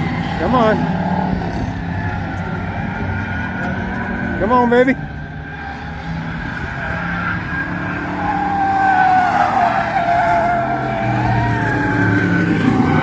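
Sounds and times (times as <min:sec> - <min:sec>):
stock car engines racing: 0:00.0 - 0:13.0.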